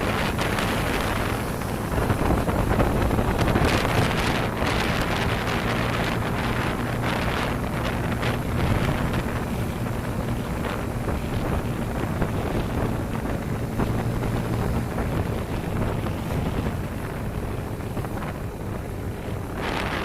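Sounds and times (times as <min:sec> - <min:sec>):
motorcycle engine hum: 0:00.0 - 0:20.0
wind buffeting microphone: 0:00.0 - 0:20.0.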